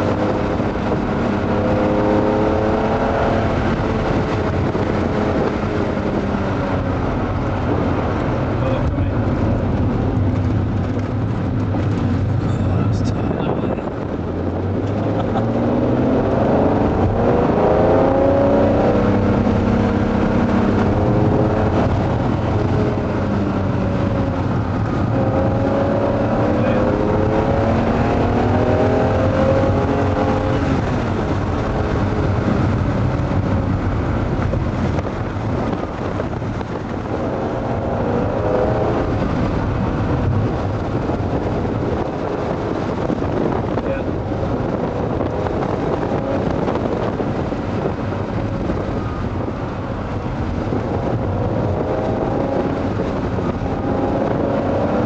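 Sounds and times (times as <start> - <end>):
car engine accelerating from cabin: 0.0 - 55.0.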